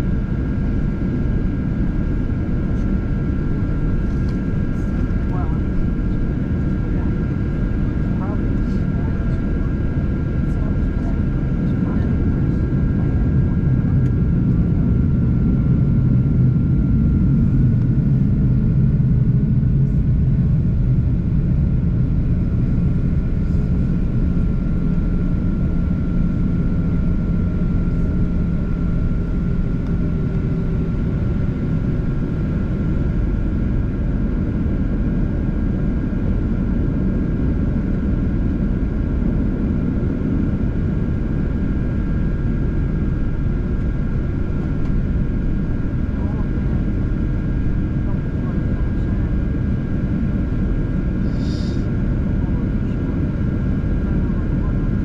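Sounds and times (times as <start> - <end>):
jet engine rumble and airflow: 0.0 - 55.0
thin steady engine whine: 0.0 - 55.0.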